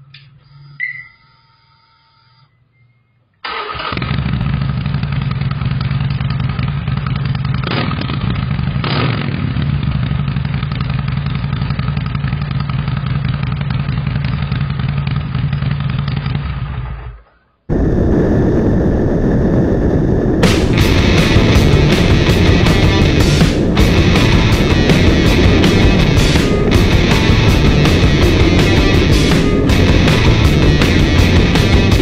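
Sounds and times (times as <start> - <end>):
motorcycle engine running: 3.9 - 32.0.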